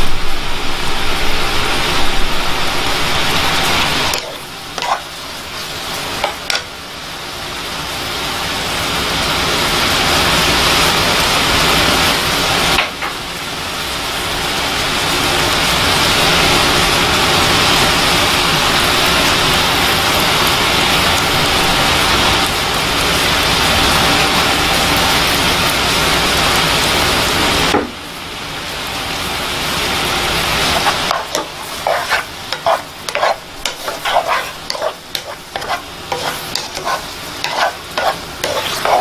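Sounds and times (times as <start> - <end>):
chutney sizzling in pan: 0.1 - 39.0.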